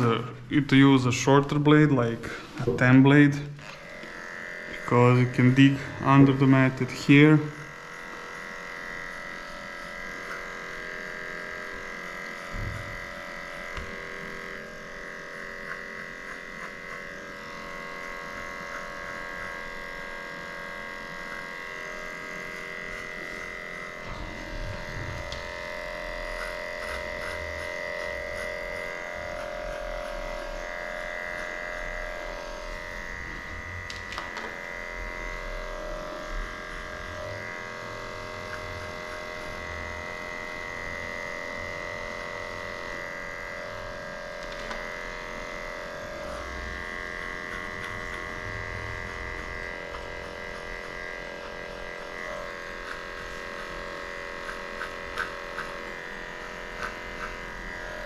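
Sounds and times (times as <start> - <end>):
electric clippers whining: 0.0 - 58.0.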